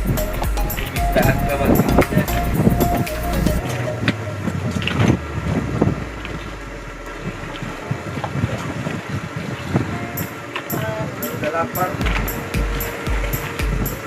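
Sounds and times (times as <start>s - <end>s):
sea: 0.0s - 14.0s
wind: 0.0s - 14.0s.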